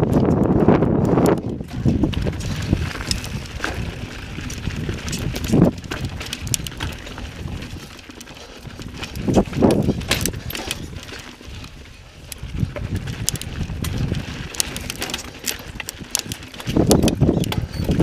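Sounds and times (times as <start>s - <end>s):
bike rattling: 0.0s - 18.0s
bike tyres rumbling on rock: 0.0s - 18.0s
wheels knocking on rocks: 0.0s - 18.0s.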